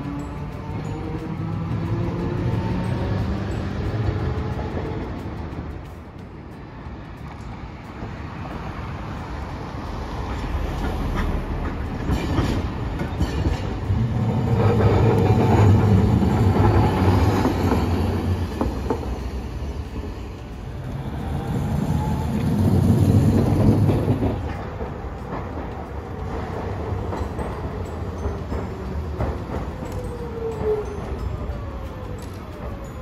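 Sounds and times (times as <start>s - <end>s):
streetcar wheels rumbling on rails: 0.0s - 33.0s
wheels clicking over rail joints: 0.0s - 33.0s.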